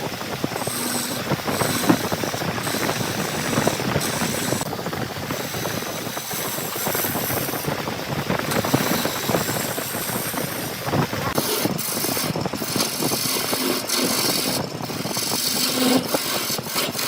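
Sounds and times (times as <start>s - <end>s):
continuous rattle: 0.0s - 17.0s
engine-driven machinery running: 0.0s - 17.0s.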